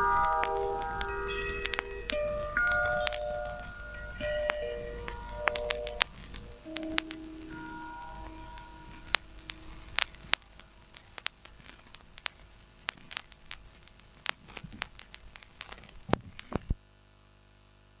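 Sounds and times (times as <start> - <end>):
faint steady hum: 0.0 - 18.0
vinyl surface crackle and hiss: 0.0 - 18.0.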